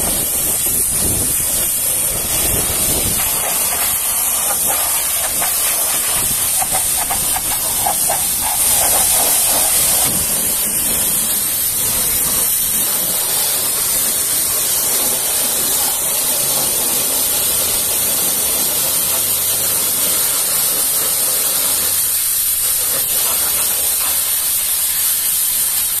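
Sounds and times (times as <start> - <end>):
pressure washer jet hissing: 0.0 - 26.0.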